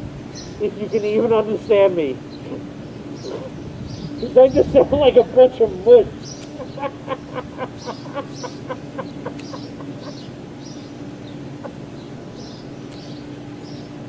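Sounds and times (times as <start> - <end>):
steady low hum: 0.0 - 14.0
bird chirping: 0.3 - 5.4, 6.1 - 14.0.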